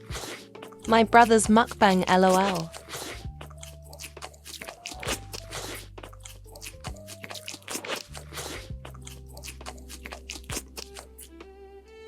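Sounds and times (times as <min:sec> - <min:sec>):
crunchy food being chewed: 0:00.0 - 0:11.3.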